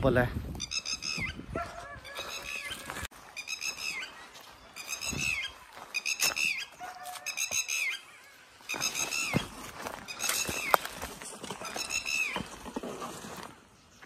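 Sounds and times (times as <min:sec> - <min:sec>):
animal squeaky calls: 0:00.6 - 0:11.0, 0:11.6 - 0:12.5.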